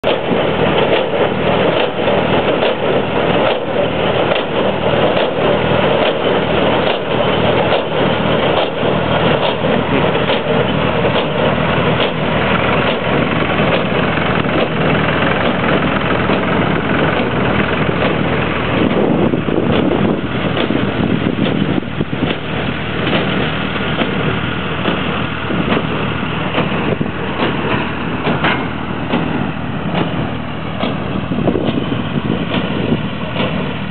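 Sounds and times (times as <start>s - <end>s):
baler machinery clattering and knocking: 0.0s - 33.9s
tractor engine running: 0.0s - 33.9s.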